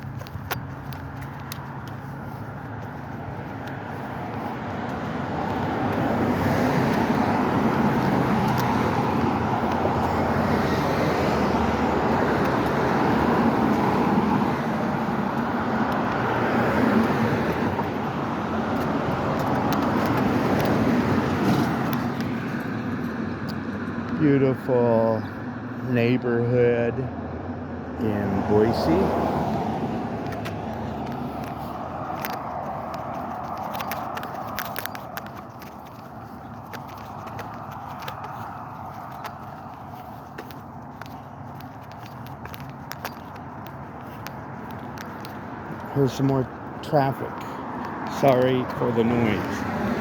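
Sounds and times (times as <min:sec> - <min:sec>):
cars passing: 0:00.0 - 0:50.0.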